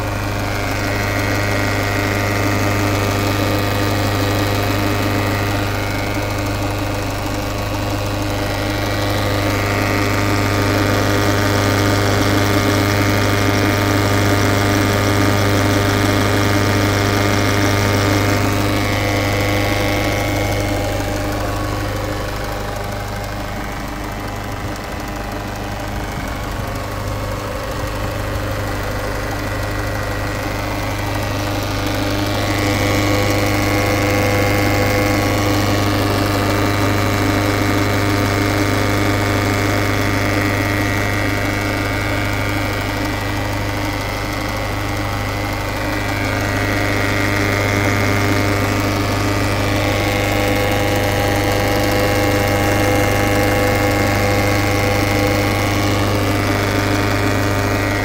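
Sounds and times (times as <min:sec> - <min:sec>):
diesel engine running: 0:00.0 - 0:58.0
high whine: 0:00.0 - 0:58.0.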